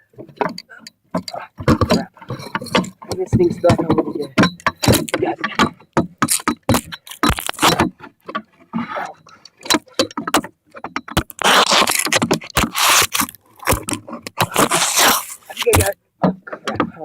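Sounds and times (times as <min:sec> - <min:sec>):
clicks knocks and rattles: 0:00.1 - 0:17.0
rubbing and scraping: 0:00.2 - 0:17.0.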